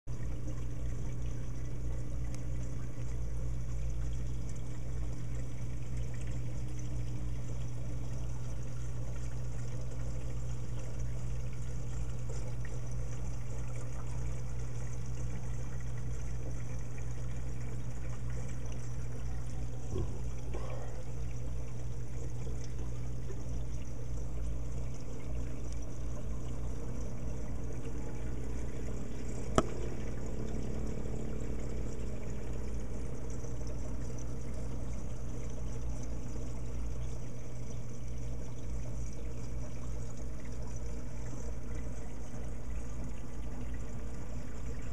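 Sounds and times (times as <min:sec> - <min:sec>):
constant low hum: 0:00.0 - 0:44.9
water pouring and trickling: 0:00.1 - 0:44.9.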